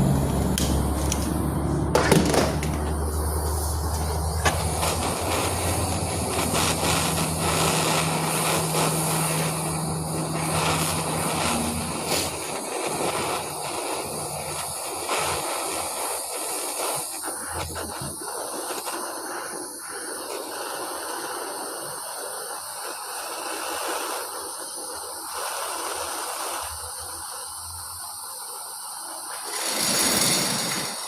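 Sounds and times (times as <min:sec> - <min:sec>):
gas torch flame hissing: 0:00.0 - 0:31.0.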